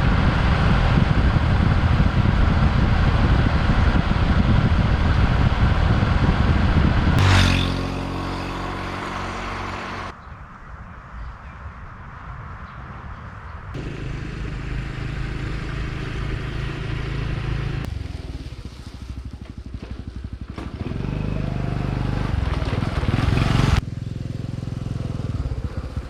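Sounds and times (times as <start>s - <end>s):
motorcycle engine: 0.0s - 10.2s, 13.8s - 26.0s
wind and road noise: 0.0s - 26.0s.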